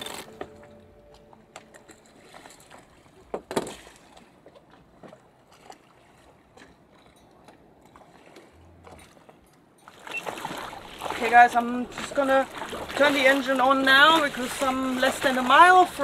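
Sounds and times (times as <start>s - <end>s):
water washing along boat hull: 0.0s - 16.0s.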